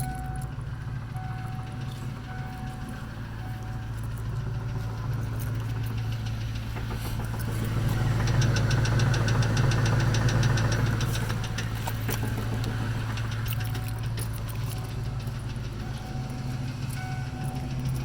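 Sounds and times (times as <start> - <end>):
car engine running: 0.0 - 18.0
fast even engine knocking tick: 0.0 - 18.0.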